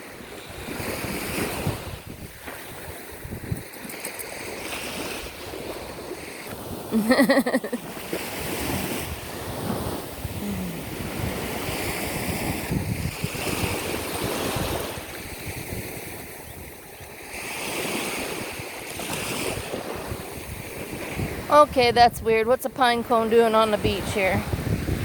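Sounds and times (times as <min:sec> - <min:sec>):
small waves washing onto beach: 0:00.0 - 0:25.0
wind buffeting microphone: 0:00.0 - 0:25.0.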